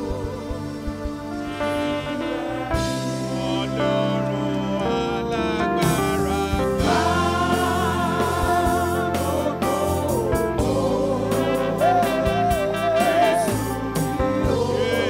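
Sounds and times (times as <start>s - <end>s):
backing singers: 0.0s - 15.0s
band accompaniment: 0.0s - 15.0s
person singing with vibrato: 0.0s - 15.0s.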